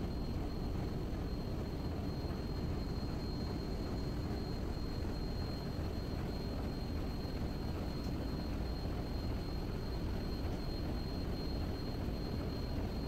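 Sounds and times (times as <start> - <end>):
engine-room machinery drone: 0.0 - 13.0.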